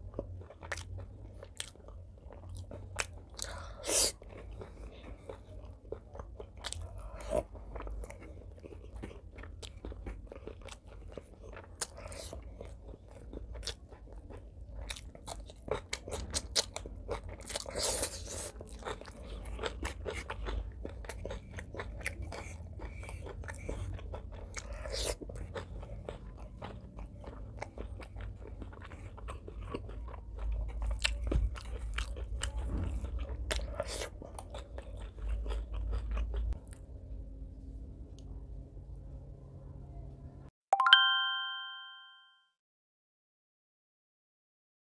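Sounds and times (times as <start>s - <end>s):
chewing and wet mouth sounds: 0.0s - 37.2s.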